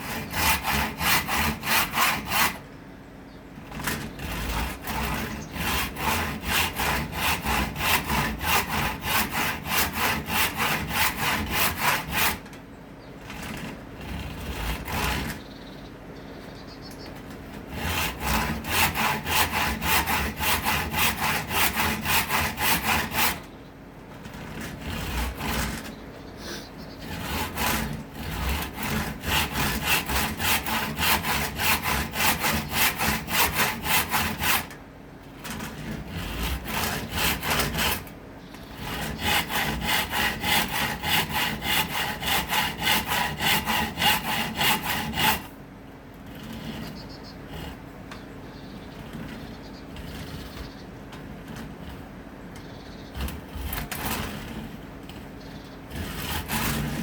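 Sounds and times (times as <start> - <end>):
hand saw cutting wood: 0.0 - 2.7, 3.6 - 12.6, 13.2 - 15.5, 17.3 - 23.6, 24.2 - 48.1, 48.9 - 52.3, 53.0 - 57.0.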